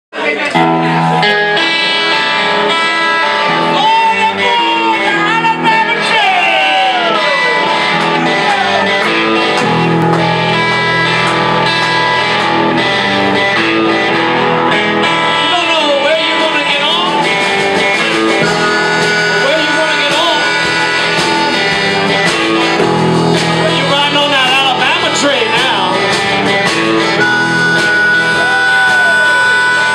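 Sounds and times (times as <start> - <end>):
electric blues band playing: 0.2 - 29.9
lead guitar bending notes: 0.4 - 29.9.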